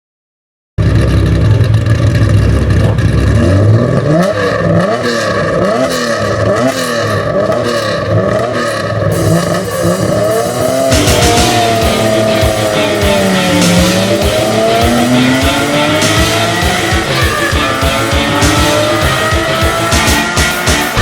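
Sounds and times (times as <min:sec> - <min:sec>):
car engine idling and revving: 0:00.8 - 0:21.0.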